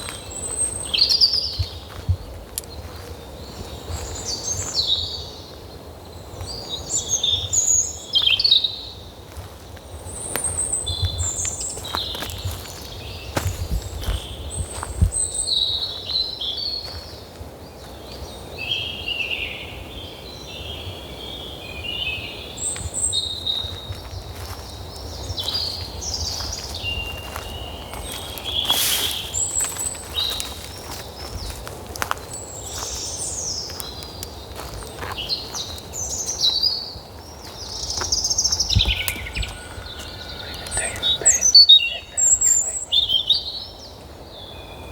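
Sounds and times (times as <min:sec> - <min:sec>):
birds singing and chirping: 0:00.0 - 0:44.9.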